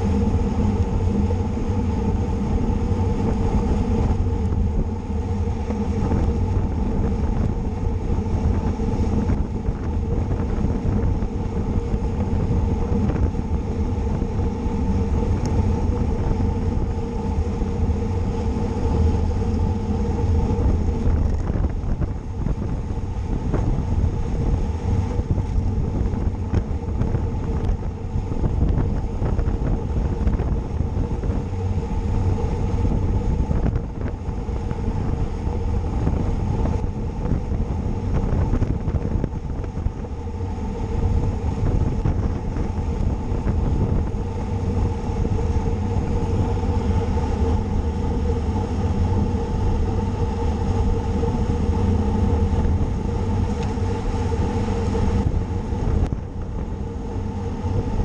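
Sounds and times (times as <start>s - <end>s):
faint hum: 0.0s - 58.0s
wind buffeting microphone: 0.0s - 58.0s.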